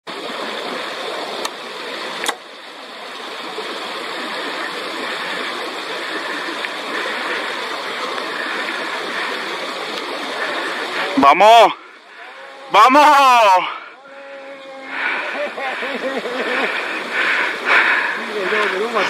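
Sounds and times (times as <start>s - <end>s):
steady rushing noise: 0.1s - 19.0s.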